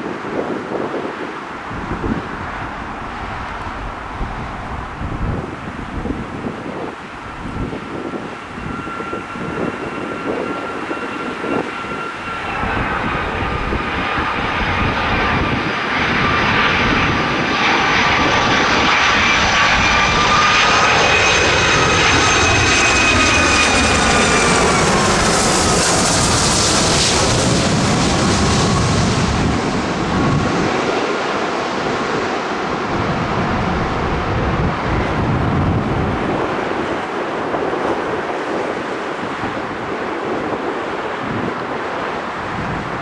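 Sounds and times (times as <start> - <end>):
jet airliner passing: 0.0 - 43.0.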